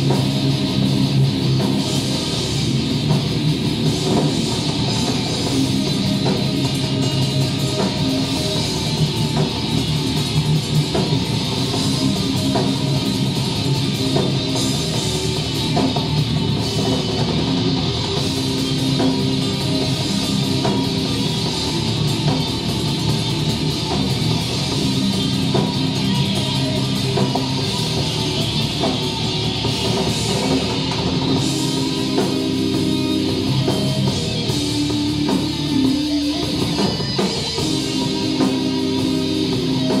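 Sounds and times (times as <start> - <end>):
heavy metal band playing live: 0.0 - 40.0.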